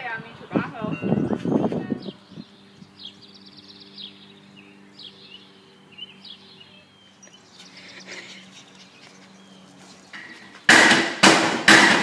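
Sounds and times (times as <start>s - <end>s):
faint birds chirping: 0.4s - 10.7s.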